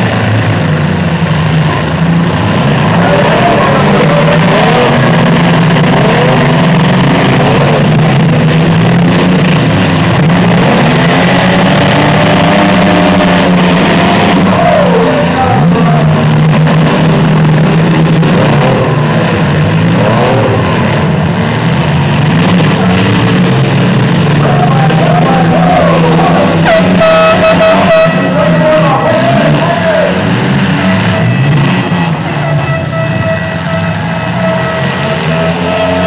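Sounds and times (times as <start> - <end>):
truck engines revving: 0.0 - 36.0.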